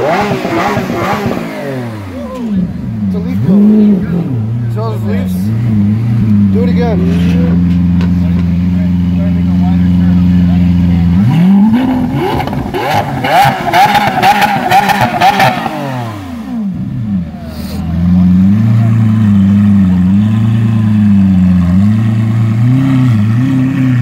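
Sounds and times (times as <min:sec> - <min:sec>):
car engine revving: 0:00.0 - 0:24.0
exhaust crackles: 0:00.0 - 0:24.0.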